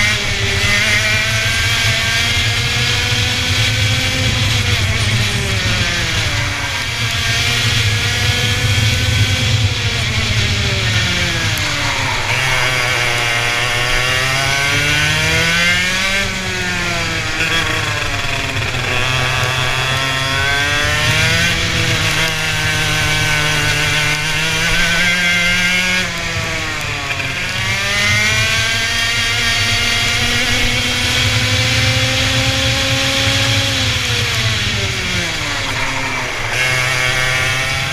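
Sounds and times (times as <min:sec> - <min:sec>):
racing engine revving: 0:00.0 - 0:37.9.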